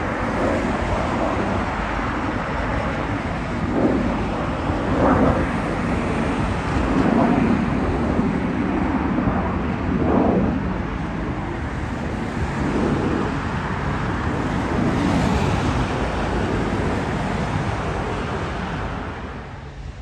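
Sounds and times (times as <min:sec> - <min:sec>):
faint high engine whine: 0:00.0 - 0:20.0
jet engine roar overhead: 0:00.0 - 0:20.0.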